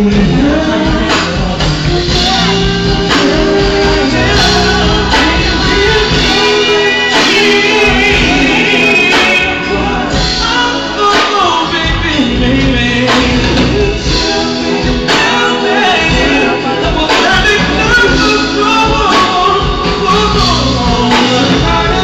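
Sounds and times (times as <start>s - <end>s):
drums: 0.0s - 22.0s
electric guitars: 0.0s - 22.0s
people singing into microphones: 0.0s - 22.0s.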